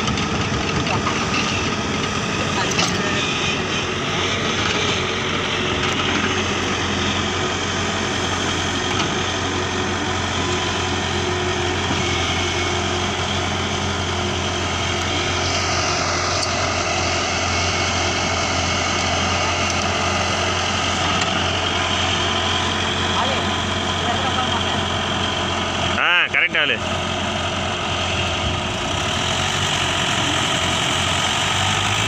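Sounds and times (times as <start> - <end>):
excavator diesel engine working: 0.0 - 32.0
tractor engine idling: 0.0 - 32.0.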